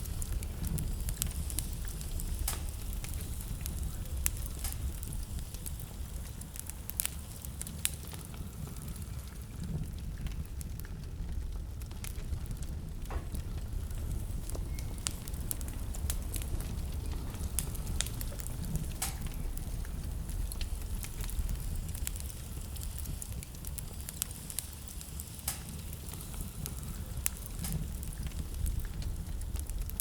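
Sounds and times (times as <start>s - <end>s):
blizzard wind rumble: 0.0s - 30.0s
wood fire crackling: 0.0s - 30.0s.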